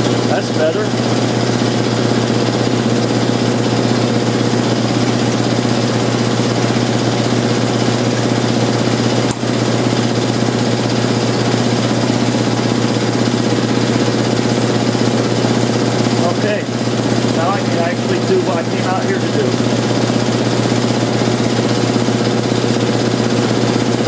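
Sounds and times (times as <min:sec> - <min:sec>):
air compressor motor hum: 0:00.0 - 0:24.0.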